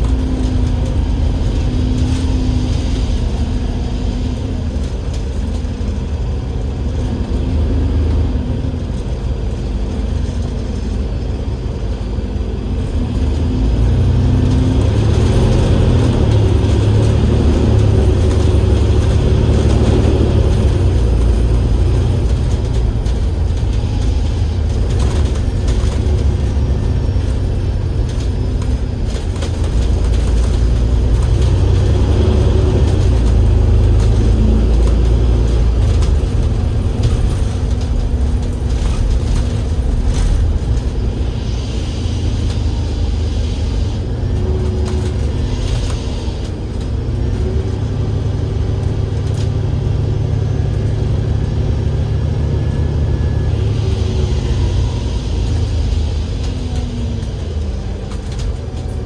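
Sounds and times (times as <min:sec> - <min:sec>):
bus diesel engine rumble: 0:00.0 - 0:59.0.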